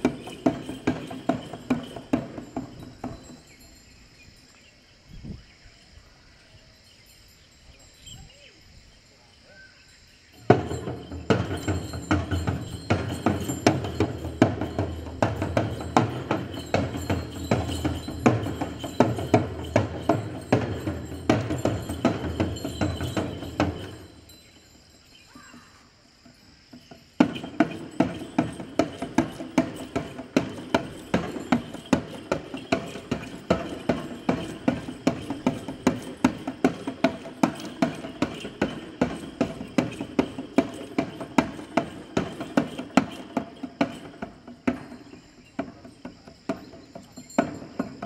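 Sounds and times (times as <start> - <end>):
frame drum beaten in dance rhythm: 0.0 - 3.6, 10.5 - 24.3, 26.8 - 48.0.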